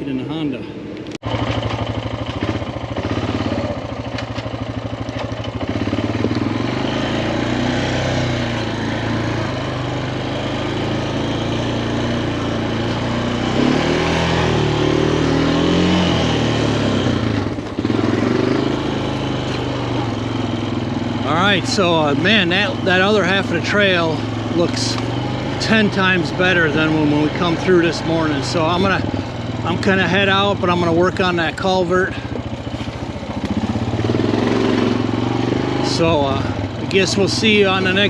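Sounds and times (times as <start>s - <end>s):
quad bike engine revving: 0.0s - 38.0s.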